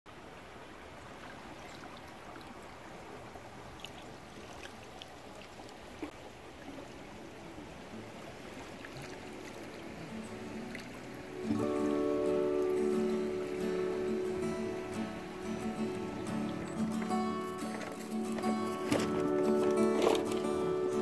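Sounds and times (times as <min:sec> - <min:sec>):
river water rushing: 0:00.1 - 0:21.0.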